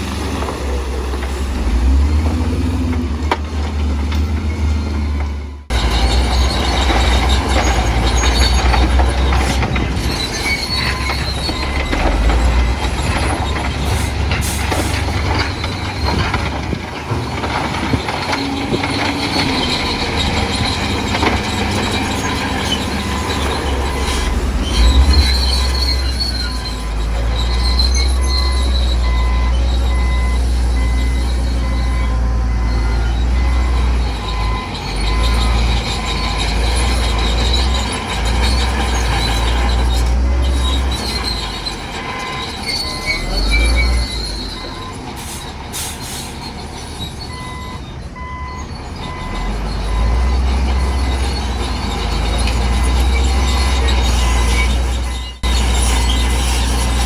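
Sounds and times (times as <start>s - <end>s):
diesel engine rumble: 0.0s - 57.0s
metallic squealing of crawler tracks: 0.0s - 57.0s.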